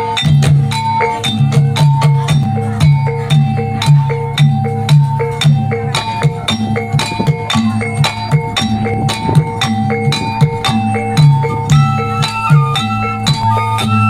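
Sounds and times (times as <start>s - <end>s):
drums: 0.0s - 14.0s
gong-chime percussion: 0.0s - 14.0s.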